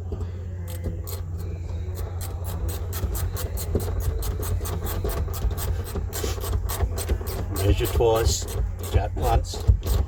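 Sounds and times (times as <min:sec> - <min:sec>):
tool rasping metal: 0:00.6 - 0:10.0.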